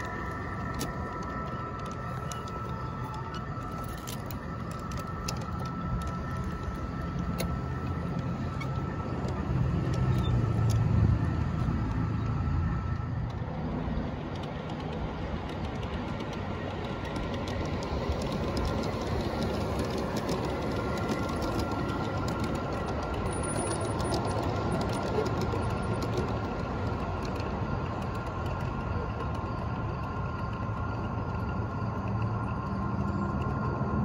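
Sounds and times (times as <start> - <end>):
model train wheels clicking: 0.0 - 34.0
train rumble: 0.0 - 34.0.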